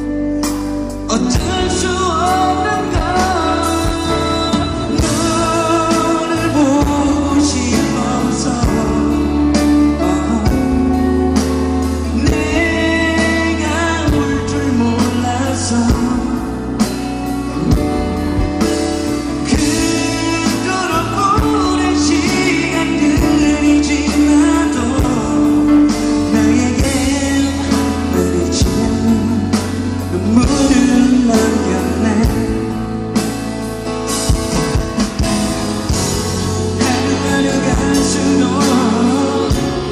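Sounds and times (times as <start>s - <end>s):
man singing into a microphone: 0.0s - 33.3s, 35.9s - 39.9s
sustained bass: 0.0s - 39.9s
steady drum beat: 0.4s - 39.9s.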